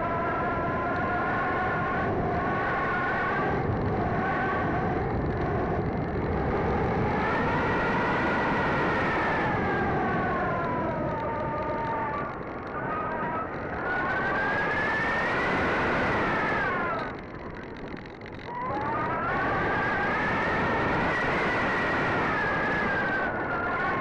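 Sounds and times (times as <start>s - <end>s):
electric motor and propeller whining: 0.0s - 24.0s.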